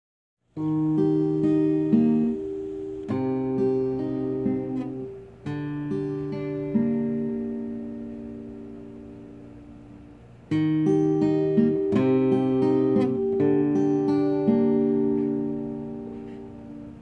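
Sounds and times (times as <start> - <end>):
acoustic guitar playing: 0.5 - 17.0.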